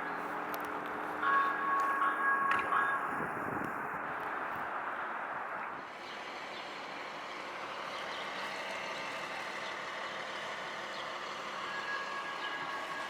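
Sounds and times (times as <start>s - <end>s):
light rail train rolling: 0.0s - 13.0s.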